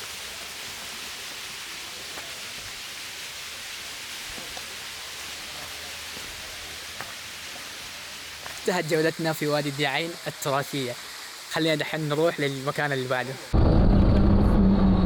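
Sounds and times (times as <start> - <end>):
stream water running: 0.0 - 13.6.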